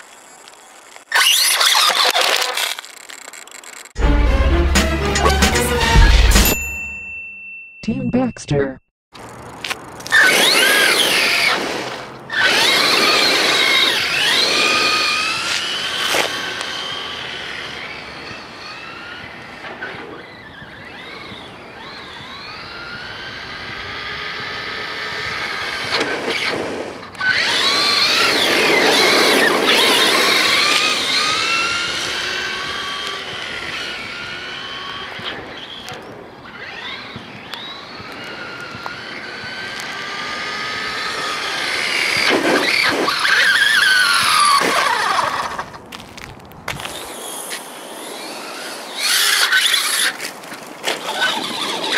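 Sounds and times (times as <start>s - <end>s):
electric motor whining: 9.2s - 45.8s, 46.8s - 51.9s.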